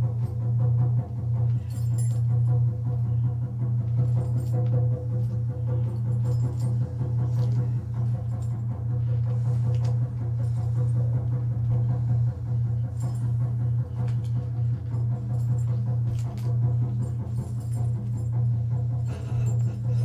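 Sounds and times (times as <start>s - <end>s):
loud low drone: 0.0s - 20.0s.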